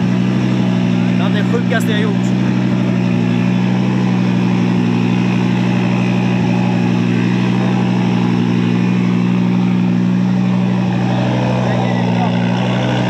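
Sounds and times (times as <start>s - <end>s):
rally car engine idling: 0.0s - 13.0s.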